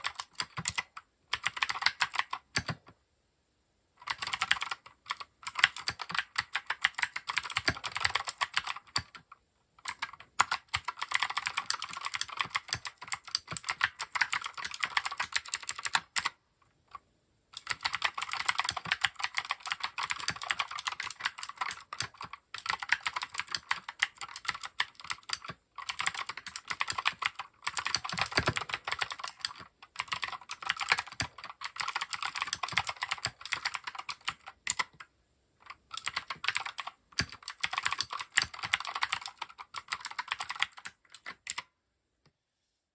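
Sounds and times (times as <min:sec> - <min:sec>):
mechanical keyboard typing: 0:00.0 - 0:03.0, 0:04.0 - 0:17.0, 0:17.6 - 0:41.7.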